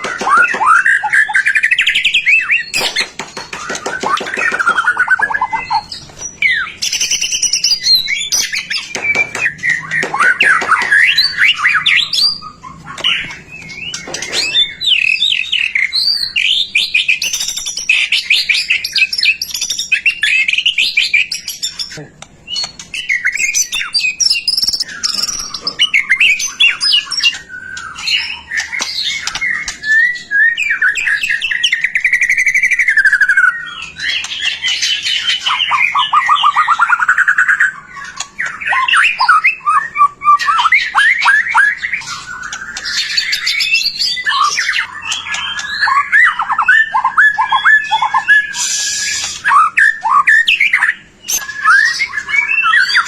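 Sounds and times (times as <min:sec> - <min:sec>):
songbird whistling and trilling: 0:00.0 - 0:53.0.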